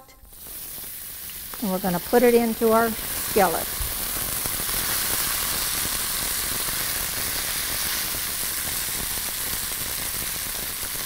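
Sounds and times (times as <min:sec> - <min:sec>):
spaghetti sizzling in hot grease: 0:00.0 - 0:11.0.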